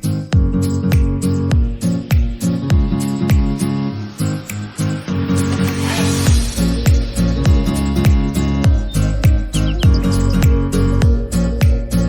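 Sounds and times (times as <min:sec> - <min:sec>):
guitar chords: 0:00.0 - 0:12.0
pop music with kick drum: 0:00.0 - 0:12.0.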